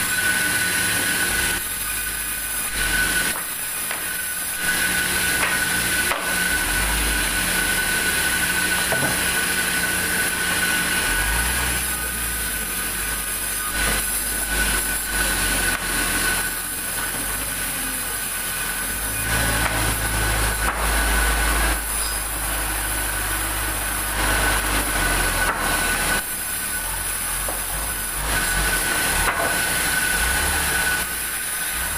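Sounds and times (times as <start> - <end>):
band saw blade whine: 0.0 - 31.9.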